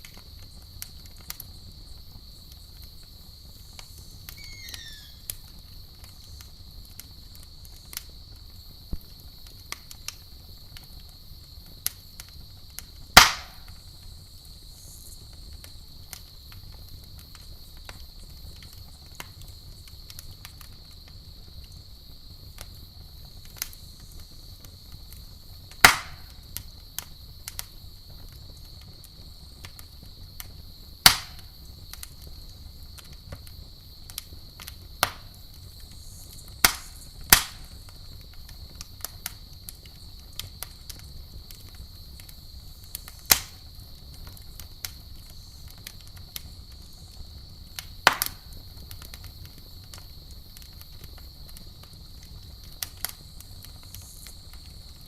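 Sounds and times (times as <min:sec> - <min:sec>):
campfire pops and crackles: 0:00.0 - 0:55.0
crickets chirring: 0:00.0 - 0:55.0.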